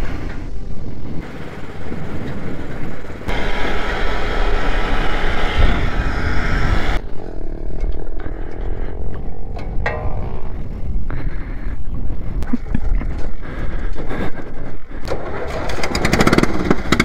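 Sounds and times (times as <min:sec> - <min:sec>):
quad bike engine running: 0:00.0 - 0:11.0, 0:12.6 - 0:17.0
wind noise on microphone: 0:00.0 - 0:17.0.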